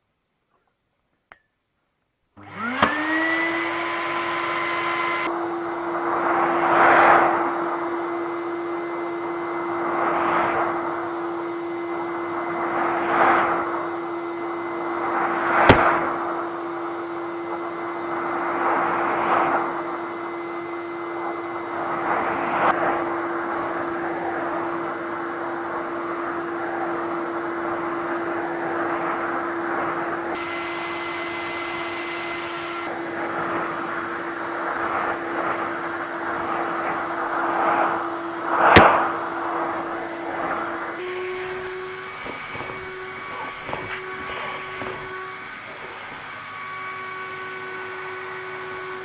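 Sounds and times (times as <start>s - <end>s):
vacuum cleaner running: 2.4s - 49.0s.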